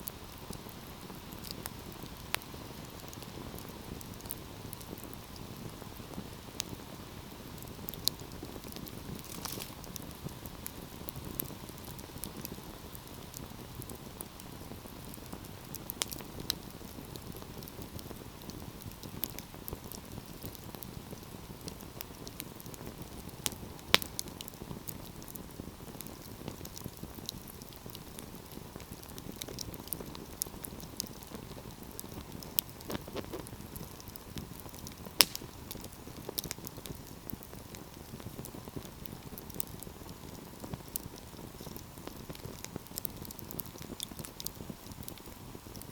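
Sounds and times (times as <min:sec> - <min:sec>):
sharp pops and snaps of fire: 0:00.0 - 0:45.9
wood fire crackling: 0:00.0 - 0:45.9.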